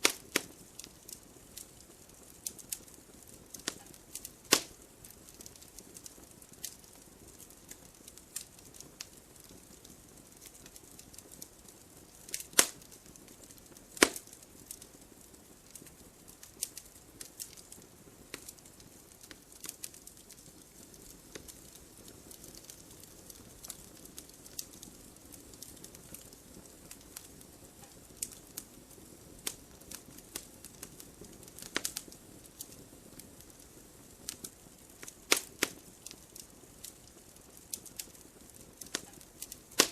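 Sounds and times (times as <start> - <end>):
hiss of burning: 0.0 - 39.9
wood fire crackling: 0.0 - 39.9.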